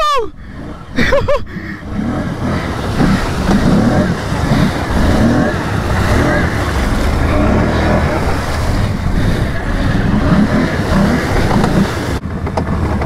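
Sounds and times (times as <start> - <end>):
water splashing: 0.3 - 12.2
atv engine under load: 0.3 - 13.0
wind buffeting microphone: 0.3 - 13.0.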